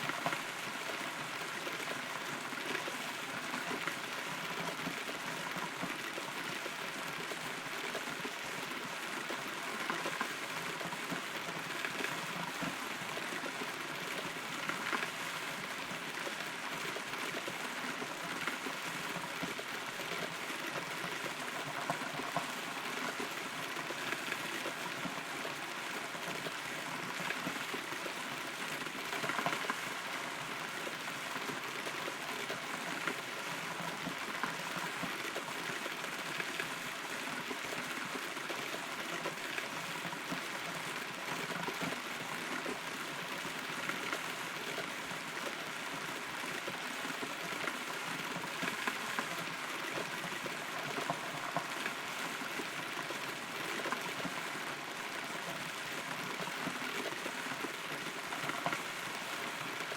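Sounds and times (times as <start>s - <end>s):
rainfall hiss: 0.0s - 59.9s.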